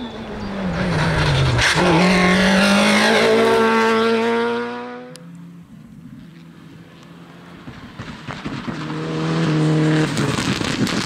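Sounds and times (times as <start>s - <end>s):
rally car engine passing: 0.0s - 11.0s.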